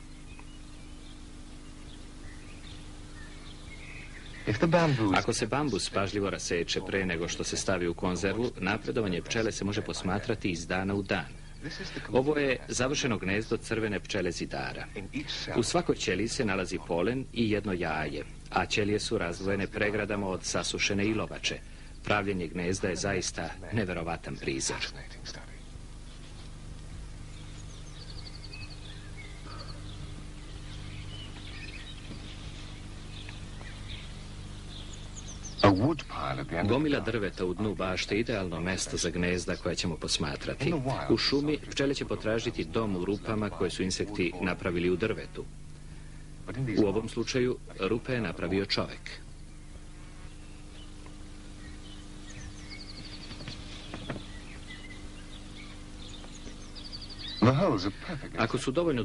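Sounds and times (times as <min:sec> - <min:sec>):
faint bird chirps and trills: 0:00.0 - 0:59.0
low hum and hiss: 0:00.0 - 0:59.0.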